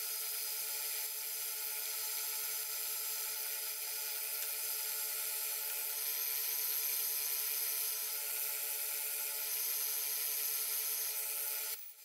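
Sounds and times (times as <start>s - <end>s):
wood lathe motor whine: 0.0s - 12.0s.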